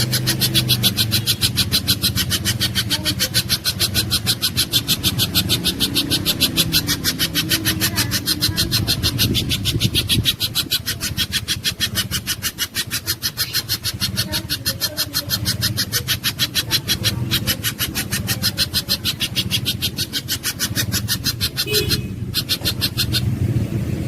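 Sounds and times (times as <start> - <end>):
bird chipping calls: 0.0 - 24.0.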